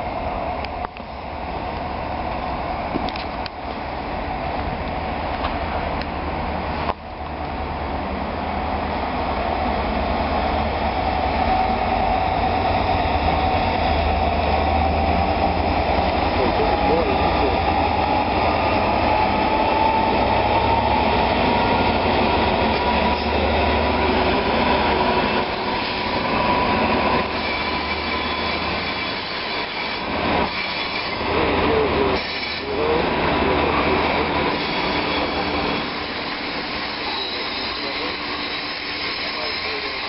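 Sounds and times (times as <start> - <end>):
train wheels on rails: 0.0 - 7.8, 8.5 - 40.0
diesel locomotive engine rumbling: 0.0 - 40.0.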